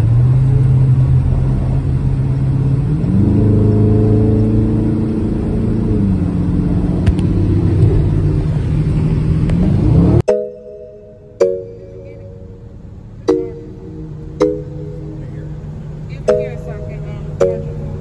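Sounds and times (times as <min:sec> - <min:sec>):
car engine running: 0:00.0 - 0:10.3, 0:11.0 - 0:18.0.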